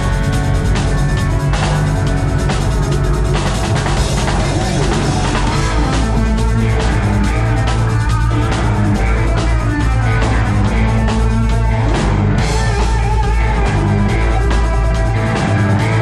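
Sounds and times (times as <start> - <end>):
bass guitar: 0.0 - 16.0
drum kit: 0.0 - 16.0
electric guitar: 0.0 - 16.0
rock band playing live: 0.0 - 16.0.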